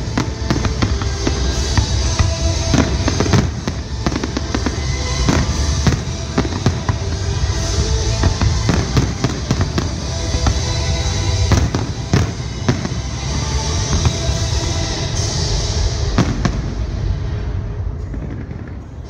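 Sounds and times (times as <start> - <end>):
fireworks booming and crackling: 0.0 - 19.0
low rumble: 0.0 - 19.0
music playing: 0.0 - 19.0.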